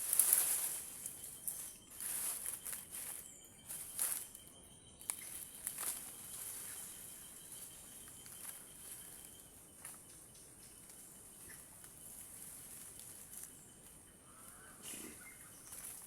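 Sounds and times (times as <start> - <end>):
rustles and clicks: 0.0 - 14.0
insects shrilling: 0.0 - 16.0.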